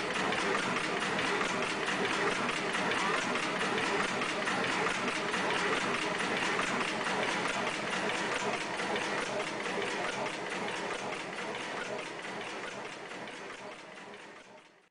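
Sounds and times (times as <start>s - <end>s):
diesel engine clattering: 0.0s - 14.6s.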